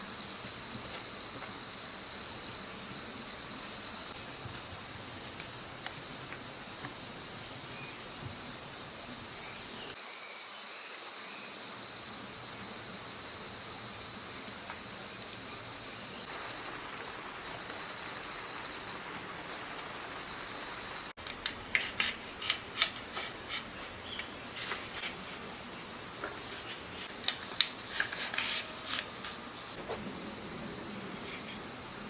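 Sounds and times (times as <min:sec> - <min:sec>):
background hiss: 0:01.9 - 0:32.0.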